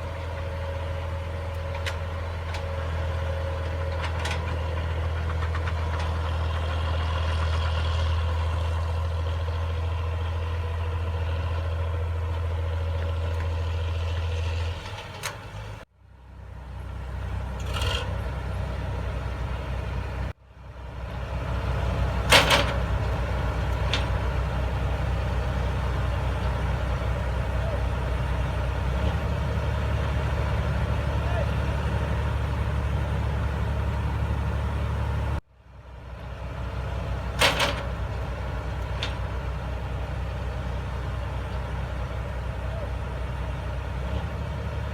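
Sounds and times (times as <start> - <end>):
diesel machinery engine running: 0.0 - 44.9.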